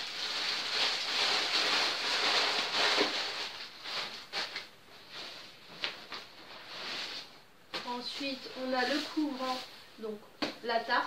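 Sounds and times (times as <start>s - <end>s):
cloth rustling: 0.0s - 10.6s.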